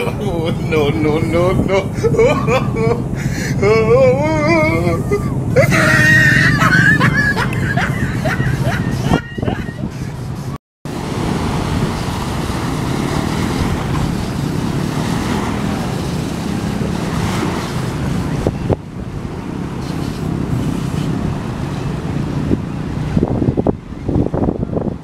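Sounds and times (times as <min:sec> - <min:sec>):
surf breaking on beach: 0:00.0 - 0:25.0
wind on microphone: 0:00.0 - 0:25.0.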